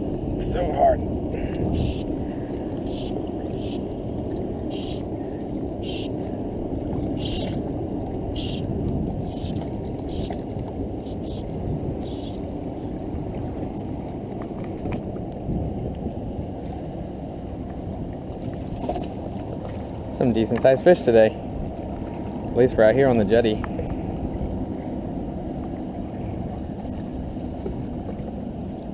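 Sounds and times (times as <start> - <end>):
wind on microphone: 0.0 - 20.5, 21.4 - 28.9
water against rocks: 0.0 - 28.9.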